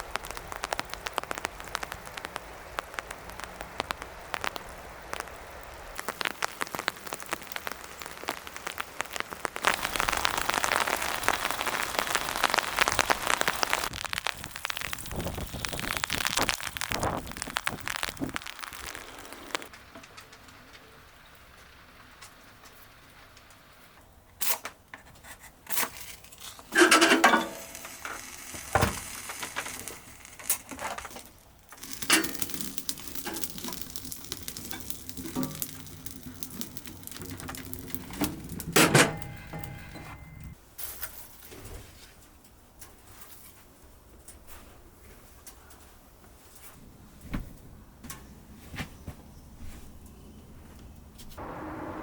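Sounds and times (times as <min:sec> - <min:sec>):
faint steady hiss: 0:00.0 - 0:24.8, 0:25.5 - 0:46.8.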